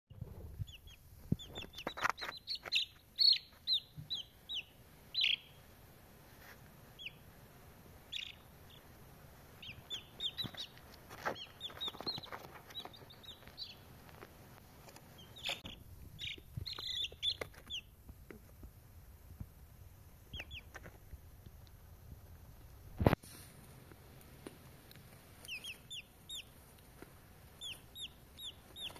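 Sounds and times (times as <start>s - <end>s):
baby chicks peeping: 0.2s - 18.7s, 19.4s - 28.9s.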